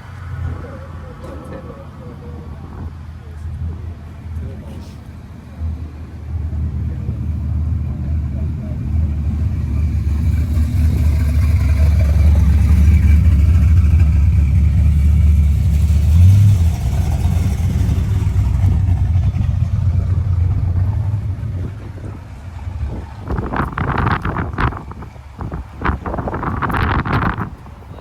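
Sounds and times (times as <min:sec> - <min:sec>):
car engine running loud and low: 0:00.0 - 0:28.0.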